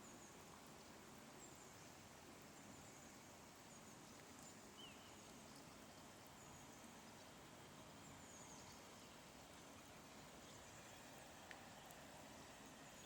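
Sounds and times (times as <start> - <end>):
faint steady water noise: 0.0 - 13.0.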